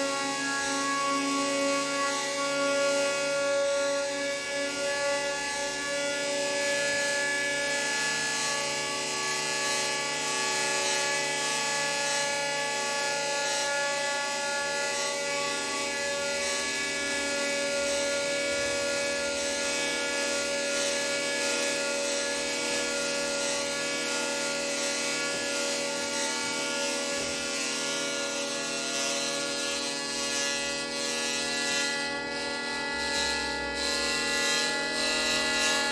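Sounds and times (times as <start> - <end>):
hurdy-gurdy drone: 0.0 - 35.9.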